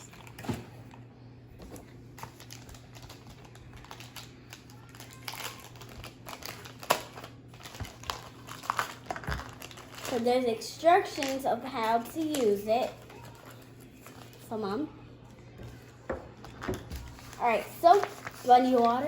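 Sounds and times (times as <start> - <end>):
packaging crinkling: 2.1 - 14.5, 15.7 - 19.0.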